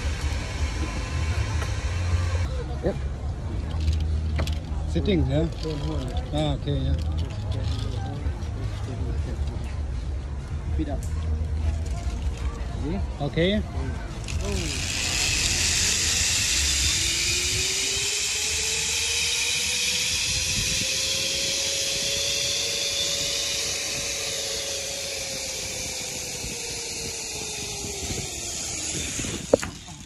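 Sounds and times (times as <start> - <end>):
zipline pulleys whirring on cable: 0.0 - 2.6, 3.6 - 9.7, 11.0 - 30.0.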